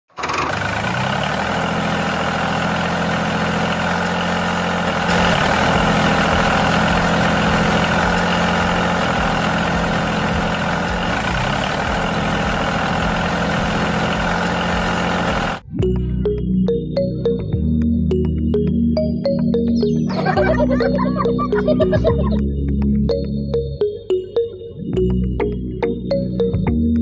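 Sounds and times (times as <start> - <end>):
tractor engine droning: 0.1 - 26.6.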